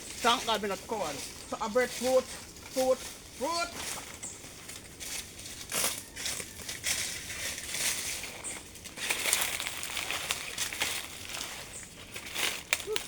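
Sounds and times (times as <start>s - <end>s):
crinkling and crunching rustles: 0.0s - 13.0s.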